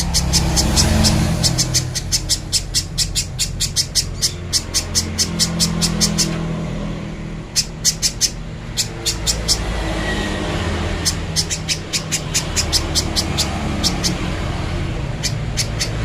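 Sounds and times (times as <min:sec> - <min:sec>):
bird calling in sharp high chips: 0:00.0 - 0:06.5, 0:07.4 - 0:16.0.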